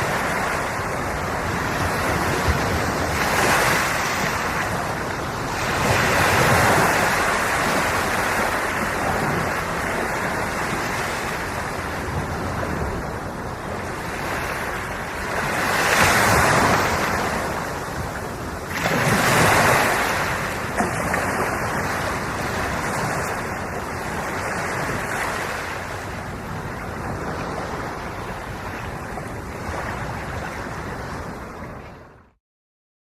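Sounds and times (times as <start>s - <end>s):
ocean waves washing ashore: 0.0s - 32.4s.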